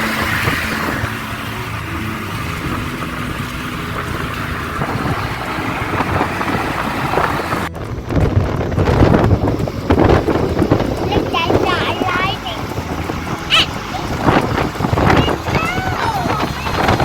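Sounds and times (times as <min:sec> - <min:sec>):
car interior road noise: 0:00.0 - 0:17.0
uneven rumble: 0:00.0 - 0:17.0.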